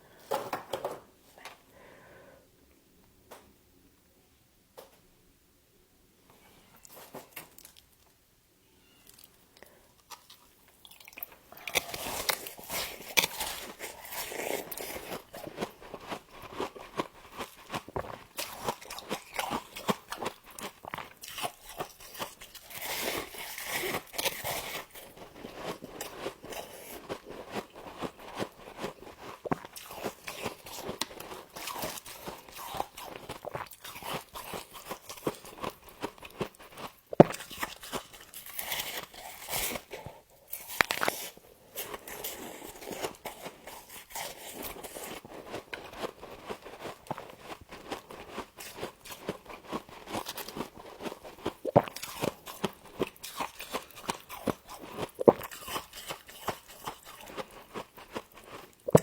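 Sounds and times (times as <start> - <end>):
person chewing crunchy frost: 9.1 - 59.0.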